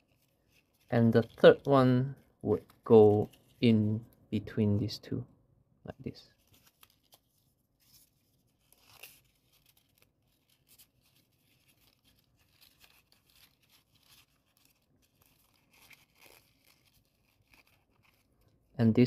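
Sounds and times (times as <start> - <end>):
paper rustling and crinkling: 0.0 - 1.8, 2.5 - 3.8, 6.2 - 18.7.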